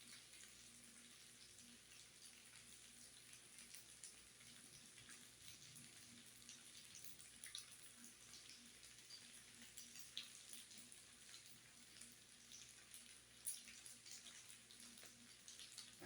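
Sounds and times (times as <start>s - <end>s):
small crackles and pops: 0.0s - 16.0s.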